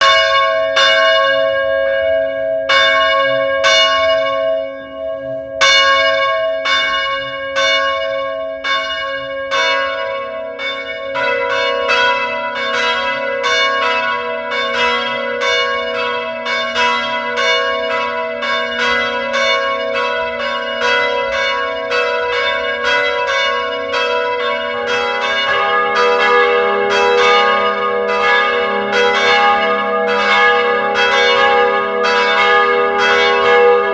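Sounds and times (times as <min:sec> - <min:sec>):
church bells ringing: 0:00.0 - 0:33.9
lower-pitched bells: 0:00.0 - 0:33.9.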